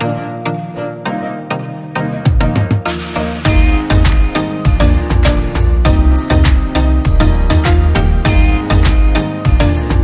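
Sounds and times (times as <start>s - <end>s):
instrumental music with steady beat: 0.0s - 10.0s.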